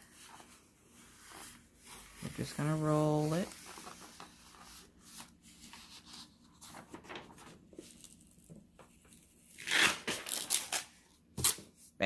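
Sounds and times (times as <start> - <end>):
parchment paper rustling: 0.0 - 11.9.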